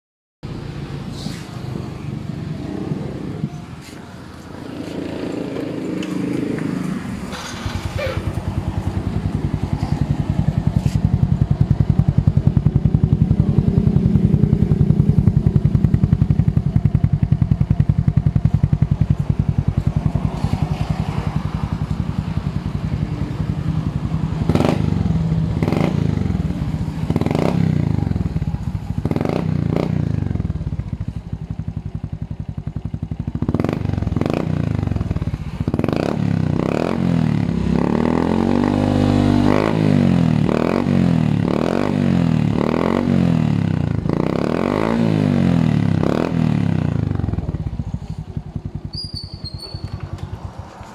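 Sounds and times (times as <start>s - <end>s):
motorcycle engine idling and revving: 0.4s - 50.9s.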